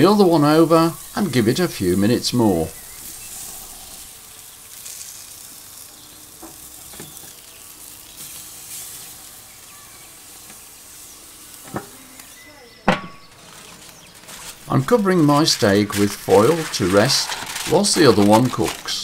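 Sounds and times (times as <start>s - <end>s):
steaks sizzling on grill: 0.0s - 19.0s.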